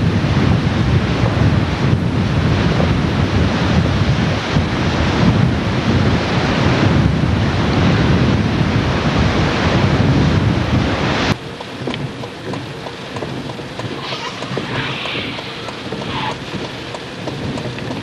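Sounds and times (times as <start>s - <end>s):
floodwater rushing: 0.0s - 18.0s
wind buffeting microphone: 0.0s - 18.0s.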